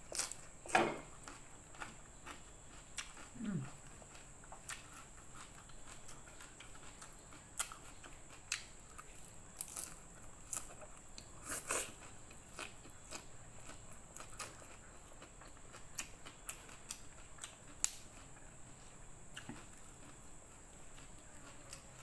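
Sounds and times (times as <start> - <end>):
chewing crunchy food: 0.0 - 22.0.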